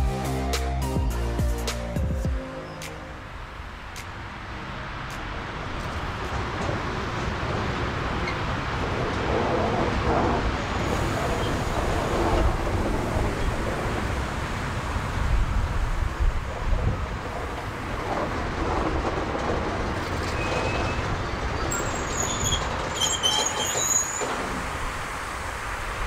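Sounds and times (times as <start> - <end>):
train running on track: 2.3 - 26.0.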